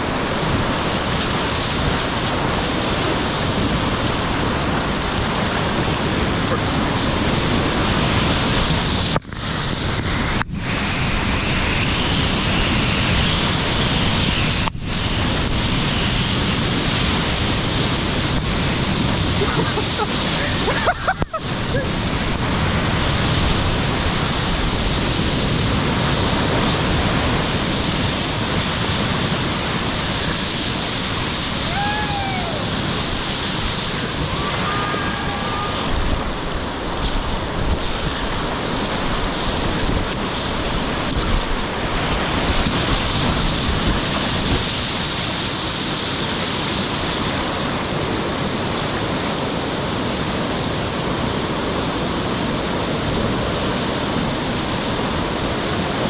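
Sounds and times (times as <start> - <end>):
whitewater rushing and splashing: 0.0 - 56.0
wind buffeting microphone: 0.0 - 56.0.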